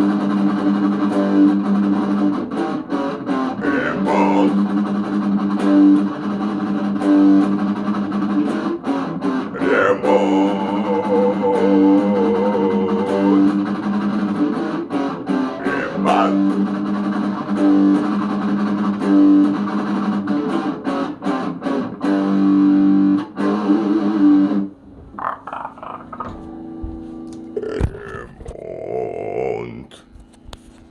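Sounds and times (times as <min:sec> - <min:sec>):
guitar-led instrumental band music: 0:00.0 - 0:28.6.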